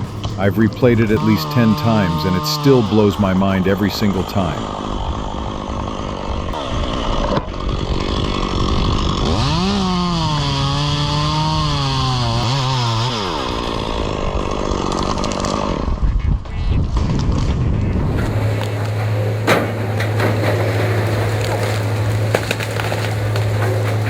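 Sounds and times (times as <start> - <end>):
chainsaw cutting wood: 0.0 - 16.0, 18.0 - 24.0.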